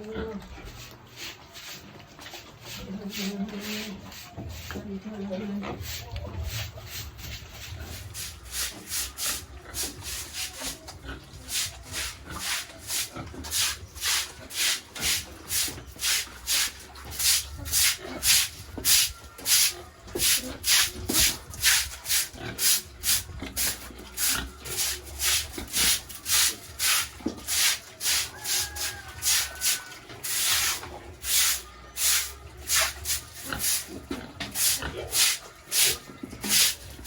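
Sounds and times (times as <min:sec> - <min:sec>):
rhythmic scraping strokes: 0:00.6 - 0:37.0.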